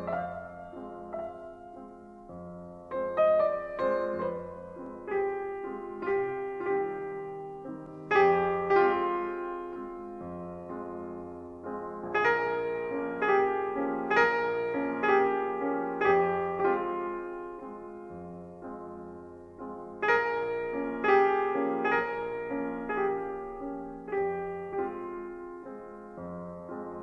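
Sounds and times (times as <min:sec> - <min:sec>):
slow gentle piano music: 0:00.0 - 0:27.0.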